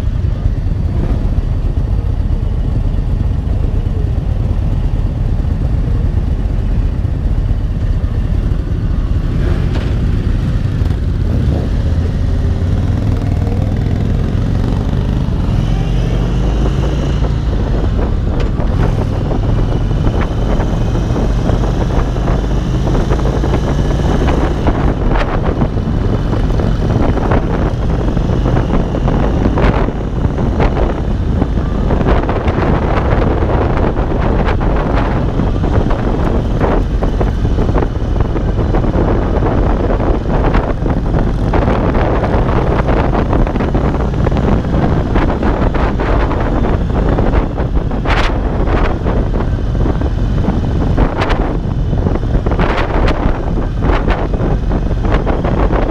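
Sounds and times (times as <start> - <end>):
wind gusts on microphone: 0.0 - 55.9
motorcycle engine pulling away: 8.1 - 55.8.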